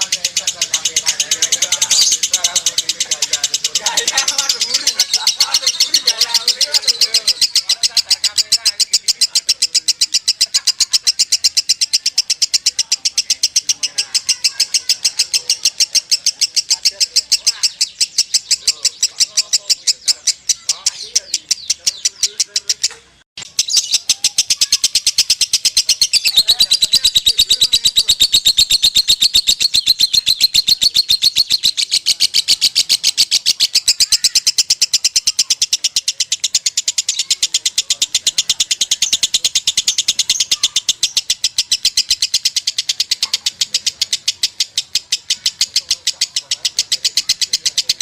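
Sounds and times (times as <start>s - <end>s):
lovebird chattering: 0.0s - 48.0s.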